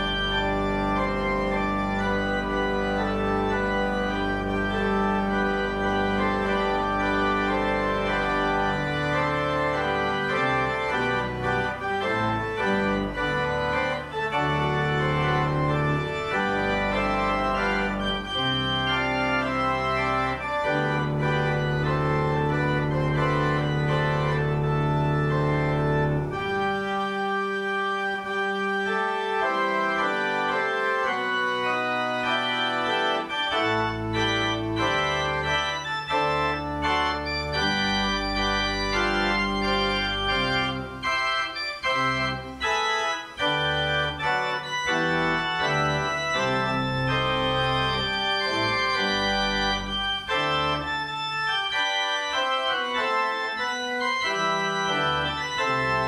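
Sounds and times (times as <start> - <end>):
church organ playing chords: 0.0 - 56.0.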